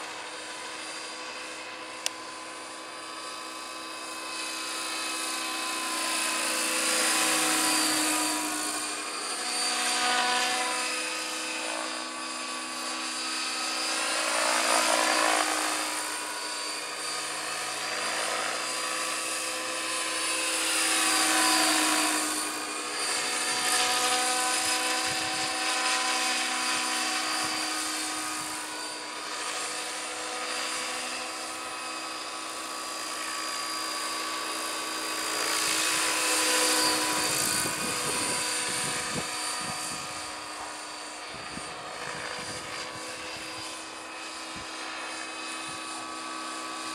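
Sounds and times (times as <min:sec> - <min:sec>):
model helicopter whine: 0:00.0 - 0:46.9.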